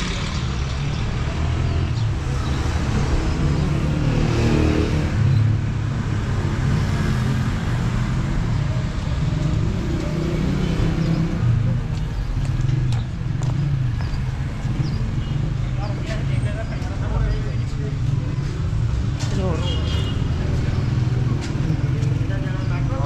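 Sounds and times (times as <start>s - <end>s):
low traffic rumble: 0.0s - 23.0s
vehicle engines passing: 0.0s - 23.0s.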